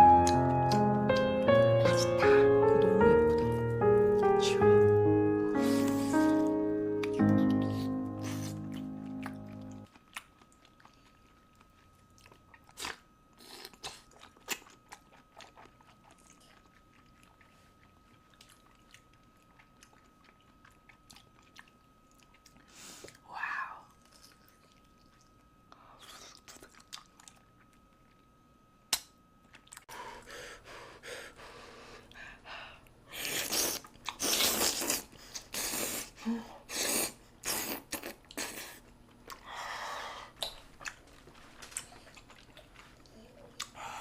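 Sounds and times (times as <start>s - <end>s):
chewing and crunching food: 5.6s - 28.3s, 28.9s - 30.4s, 31.8s - 39.6s, 40.2s - 44.0s.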